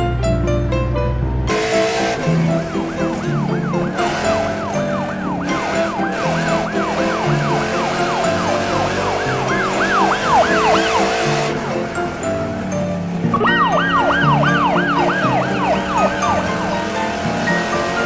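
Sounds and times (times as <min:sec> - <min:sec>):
police siren yelping: 0:01.5 - 0:18.0.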